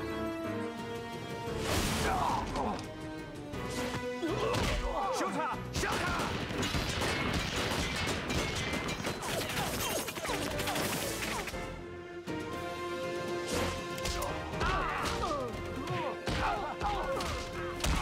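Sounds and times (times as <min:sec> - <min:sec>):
dramatic orchestral score: 0:00.0 - 0:18.0.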